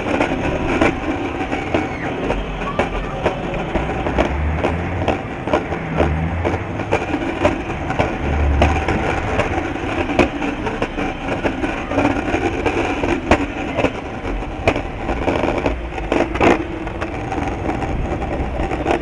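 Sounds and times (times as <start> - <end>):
sharp clicks and rattles: 0.0 - 19.0
wind buffeting microphone: 0.0 - 19.0.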